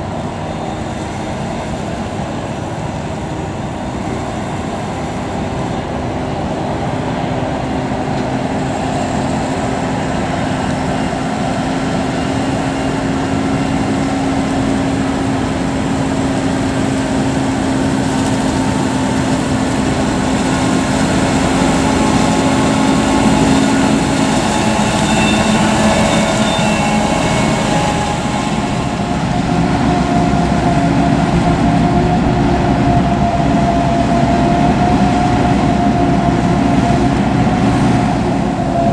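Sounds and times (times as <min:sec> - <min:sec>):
tractor pulling trailer: 0:00.0 - 0:38.9.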